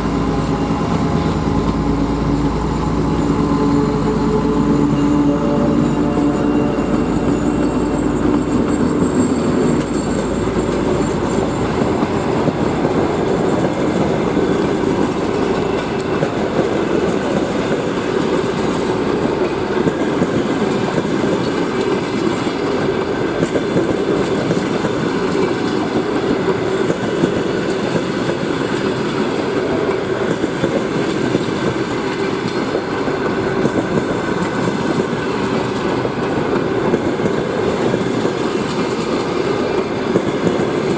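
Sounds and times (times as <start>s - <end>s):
diesel locomotive engine humming: 0.0s - 40.9s
train wheels rumbling on rails: 0.0s - 40.9s.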